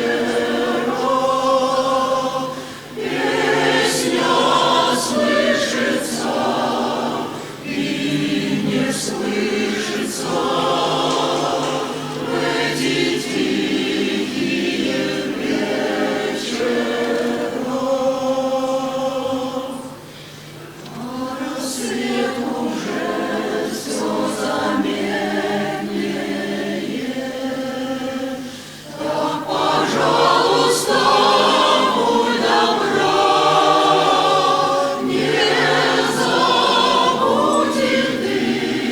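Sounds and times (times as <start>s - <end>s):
choir singing: 0.0s - 20.1s, 20.8s - 38.9s.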